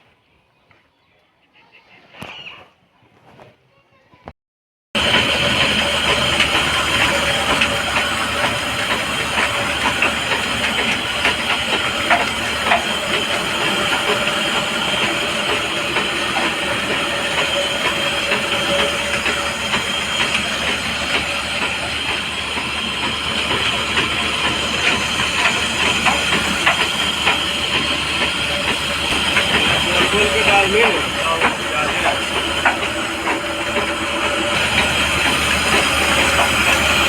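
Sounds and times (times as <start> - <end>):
flour mill rushing noise: 5.0 - 37.0.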